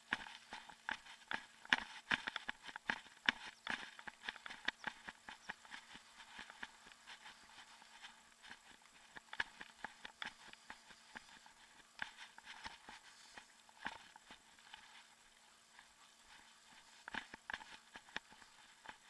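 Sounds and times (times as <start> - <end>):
faint steady hum: 0.0 - 19.0
footsteps on paved street: 0.0 - 19.0.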